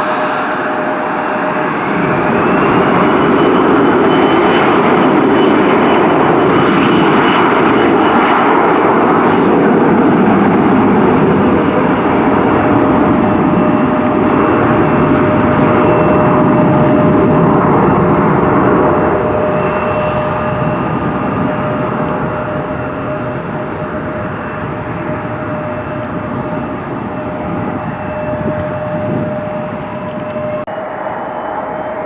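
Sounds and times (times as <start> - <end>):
jet engines running: 0.0 - 32.0.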